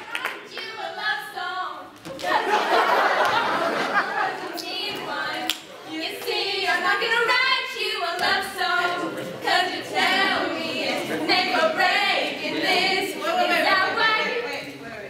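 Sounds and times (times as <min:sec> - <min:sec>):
women singing a cappella: 0:00.6 - 0:14.5.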